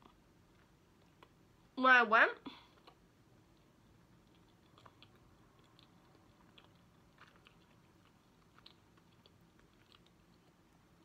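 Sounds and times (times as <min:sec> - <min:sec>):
faint chewing with mouth clicks: 0:00.0 - 0:01.8, 0:02.5 - 0:11.0.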